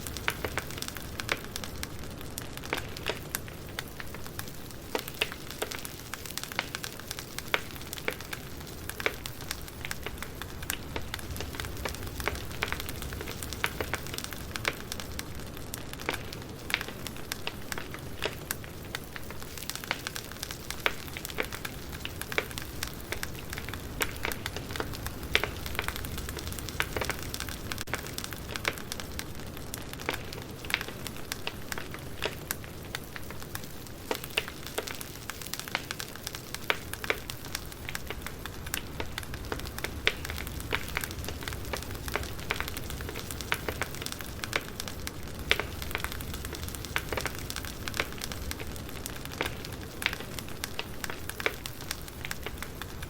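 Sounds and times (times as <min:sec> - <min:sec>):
firewood crackling and popping: 0:00.0 - 0:53.0
low rumble of flames: 0:00.0 - 0:53.0.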